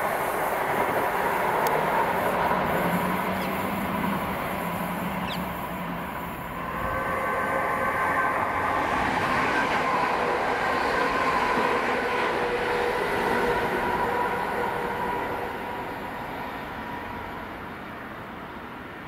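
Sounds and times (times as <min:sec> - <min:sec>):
diesel train passing: 0:00.0 - 0:19.0.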